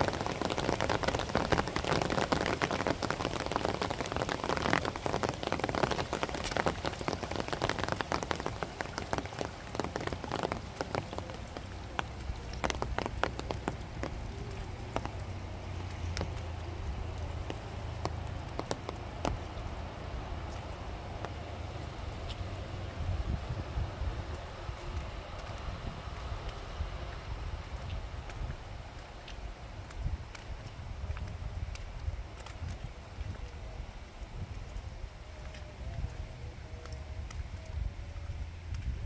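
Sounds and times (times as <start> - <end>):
rain patter: 0.0 - 39.0.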